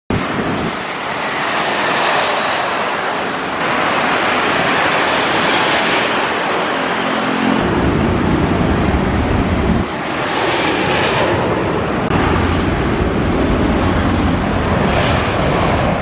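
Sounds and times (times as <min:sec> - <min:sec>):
motorbikes and cars on road: 0:00.1 - 0:16.0
jet airliner passing overhead: 0:00.2 - 0:16.0.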